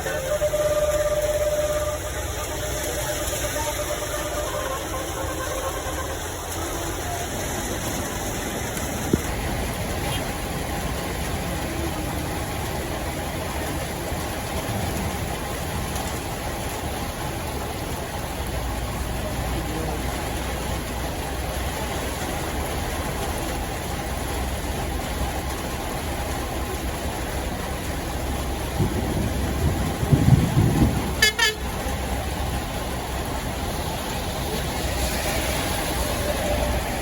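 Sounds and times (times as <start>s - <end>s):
diesel bus engines idling: 0.0s - 37.0s.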